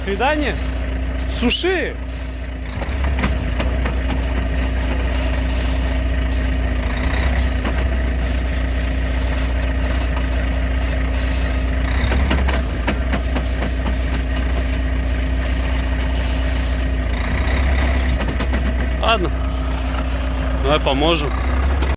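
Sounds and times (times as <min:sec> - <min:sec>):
diesel truck engine rumbling: 0:00.0 - 0:21.9.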